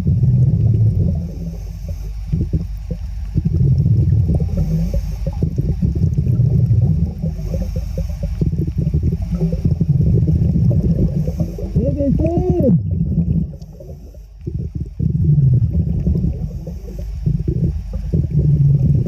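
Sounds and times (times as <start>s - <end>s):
muffled water sloshing and gurgling: 0.0s - 19.0s.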